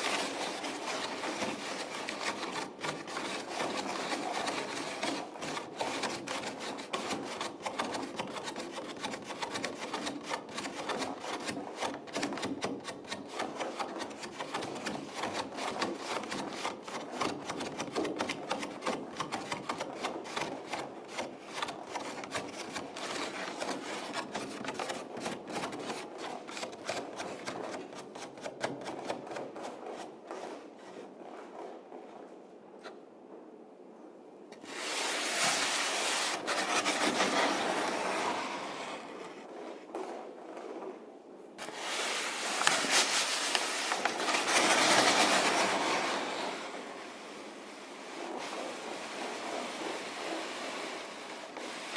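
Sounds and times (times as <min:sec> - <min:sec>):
scratchy rubbing and scraping: 0:00.0 - 0:33.0, 0:34.6 - 0:41.0, 0:41.6 - 0:51.9.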